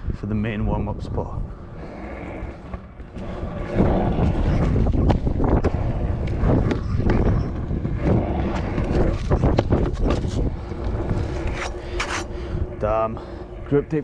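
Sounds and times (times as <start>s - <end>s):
wind rumbling on microphone: 0.0s - 14.0s
scooter wheels rolling on paving: 1.5s - 14.0s.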